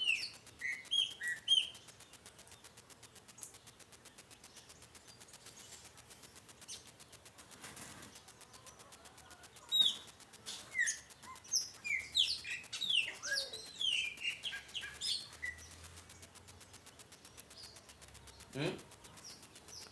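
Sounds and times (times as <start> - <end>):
faint rapid ticking: 0.0 - 19.9
songbird singing: 0.0 - 19.9.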